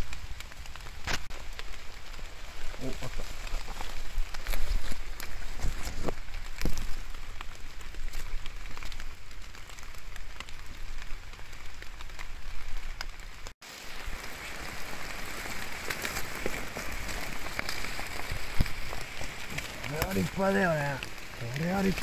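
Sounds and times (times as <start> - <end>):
heavy rain on foliage: 0.0 - 22.0.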